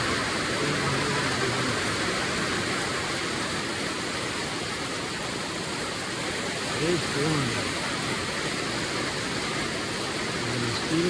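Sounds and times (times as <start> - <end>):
heavy rain on a tin roof: 0.0 - 11.0.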